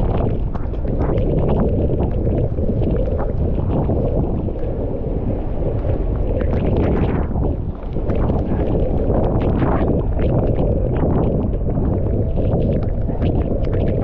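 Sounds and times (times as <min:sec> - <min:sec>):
wind roaring on microphone: 0:00.0 - 0:14.0.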